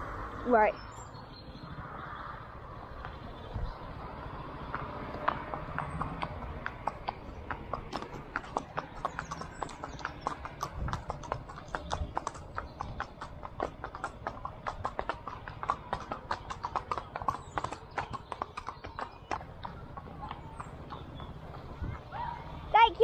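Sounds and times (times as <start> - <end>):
hooves clip-clopping on tarmac: 2.7 - 23.0.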